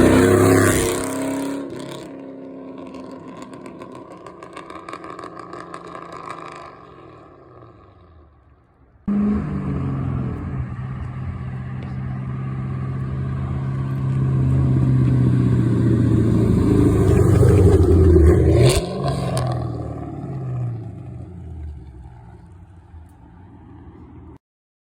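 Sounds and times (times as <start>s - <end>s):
loud car exhaust driving by: 0.0s - 24.4s.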